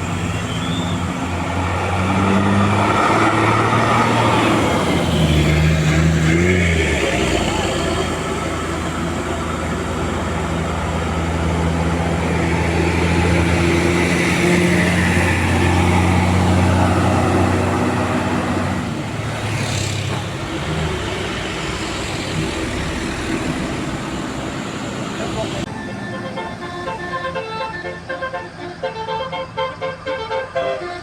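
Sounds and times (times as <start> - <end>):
bus diesel engine droning: 0.0 - 31.0.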